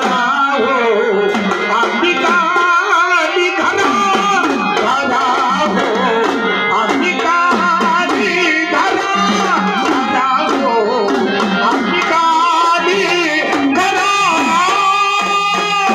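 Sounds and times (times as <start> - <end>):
hand drum rhythm: 1.3 - 15.9.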